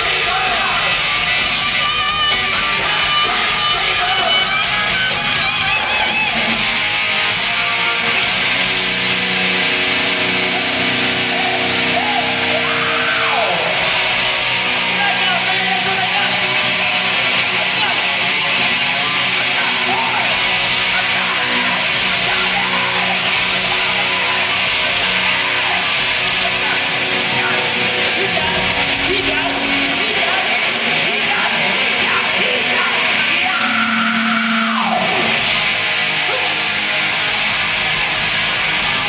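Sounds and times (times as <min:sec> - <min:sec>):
live hard rock band: 0:00.0 - 0:39.0.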